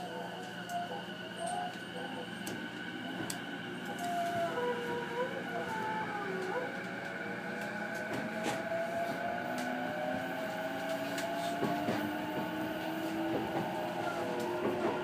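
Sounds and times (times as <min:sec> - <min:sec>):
traction motors whining: 0:00.0 - 0:15.0
train running noise: 0:00.0 - 0:15.0.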